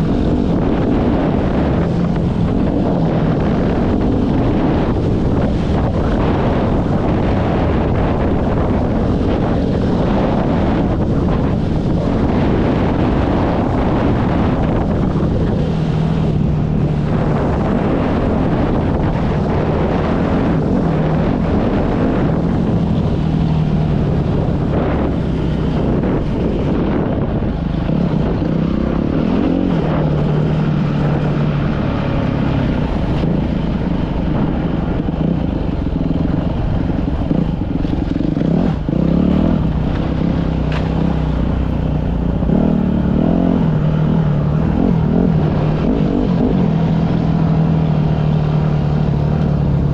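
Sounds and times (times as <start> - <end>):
dirt bike engine running: 0.0 - 49.9
wind rushing over microphone: 0.0 - 49.9.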